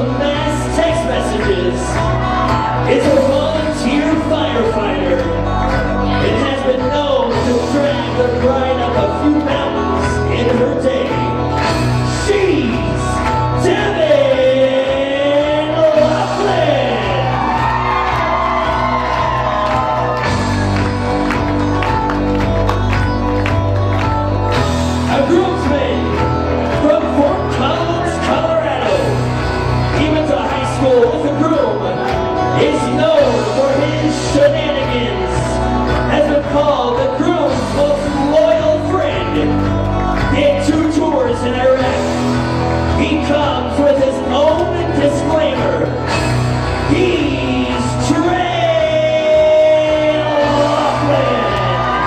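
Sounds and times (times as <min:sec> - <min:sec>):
pop music with singer: 0:00.0 - 0:52.0.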